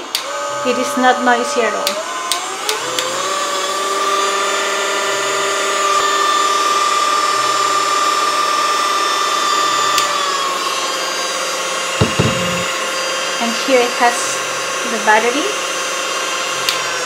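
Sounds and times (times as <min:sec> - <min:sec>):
hand mixer motor whining: 0:00.0 - 0:17.0.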